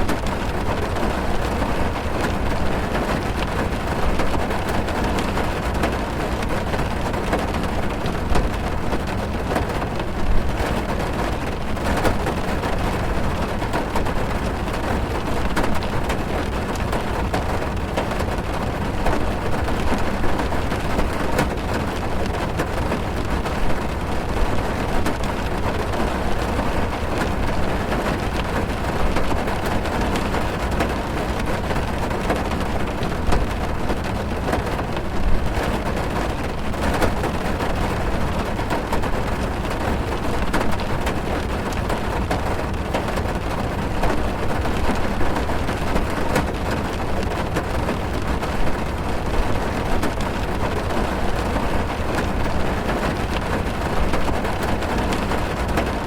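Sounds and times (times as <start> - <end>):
rain drumming on car roof: 0.0 - 56.0.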